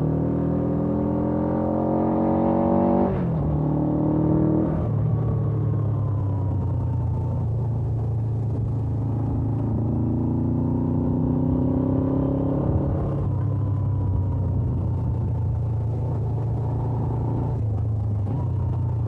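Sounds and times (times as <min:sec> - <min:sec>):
motorcycle engine: 0:00.7 - 0:19.0.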